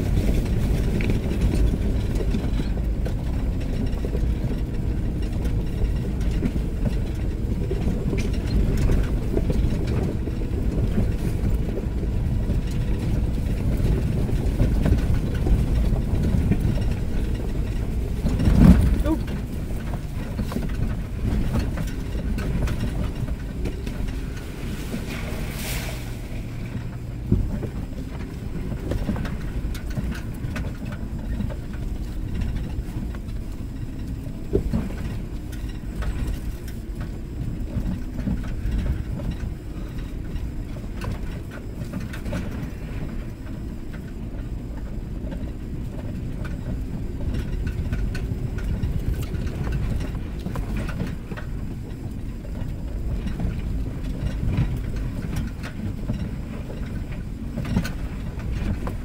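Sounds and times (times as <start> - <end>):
body knocks and rattles: 0.0 - 59.0
engine and tyre rumble: 0.0 - 59.0.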